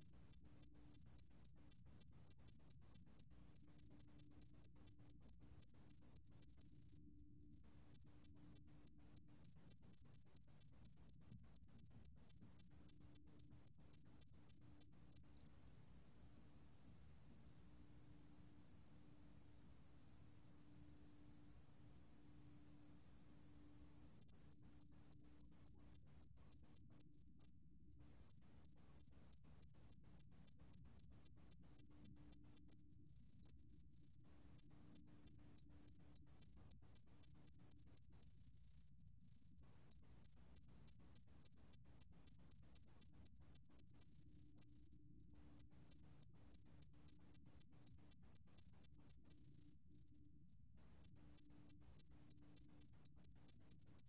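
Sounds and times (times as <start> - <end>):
cricket chirping and trilling: 0.0 - 15.5, 24.2 - 54.0.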